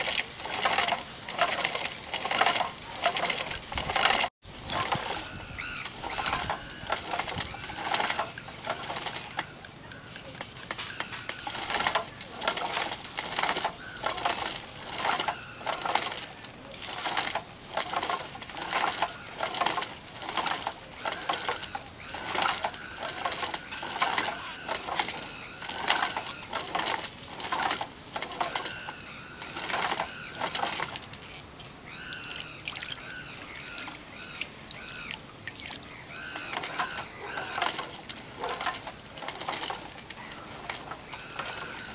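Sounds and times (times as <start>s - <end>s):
rhythmic rubbing and rattling: 0.0s - 31.6s, 36.2s - 41.9s.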